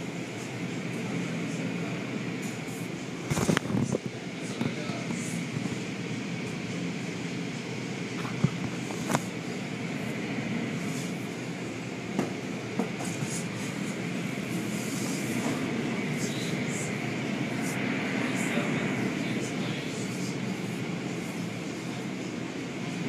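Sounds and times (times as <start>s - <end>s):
car wash machinery rumble and hiss: 0.0s - 23.0s.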